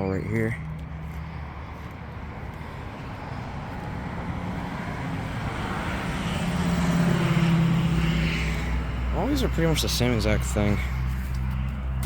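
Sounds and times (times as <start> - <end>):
road vehicle approaching: 0.0 - 12.0.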